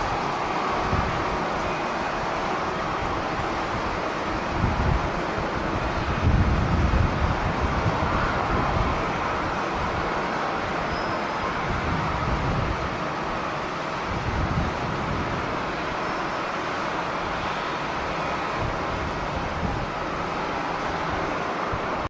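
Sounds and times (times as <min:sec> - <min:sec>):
airport noise rushing: 0:00.0 - 0:22.0
wind buffeting microphone: 0:00.0 - 0:22.0.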